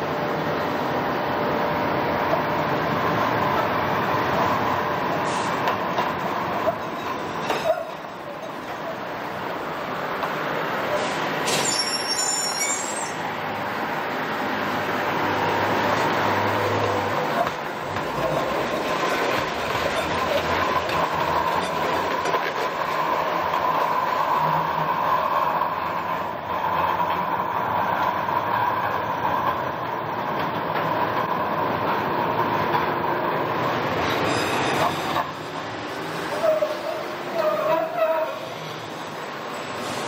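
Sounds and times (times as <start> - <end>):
rumble of wheels on rail: 0.0 - 40.0.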